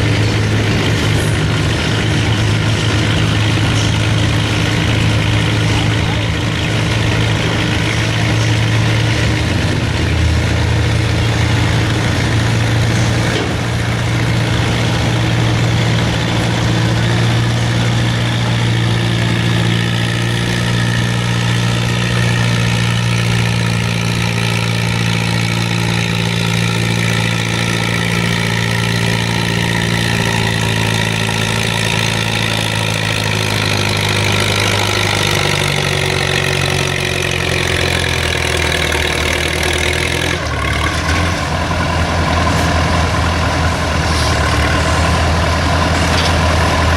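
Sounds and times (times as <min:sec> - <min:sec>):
tractor engine idling: 0:00.0 - 0:46.9.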